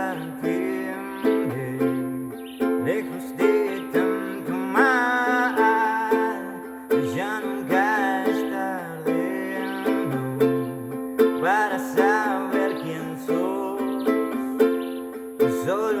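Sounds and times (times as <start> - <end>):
sliding melody line: 0.0 - 16.0
strummed acoustic string instrument: 0.0 - 16.0.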